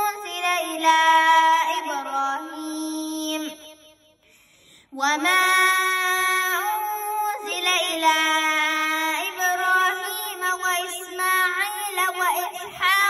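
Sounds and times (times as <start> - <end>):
girl chanting melodically: 0.0 - 4.0, 4.8 - 13.0.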